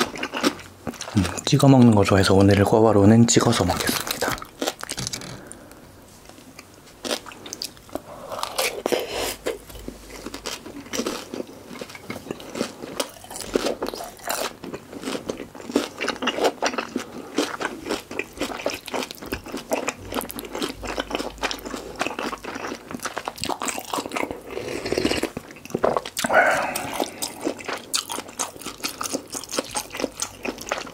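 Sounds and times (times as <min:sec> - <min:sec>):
crunchy chewing: 0:03.7 - 0:05.6, 0:06.2 - 0:30.9.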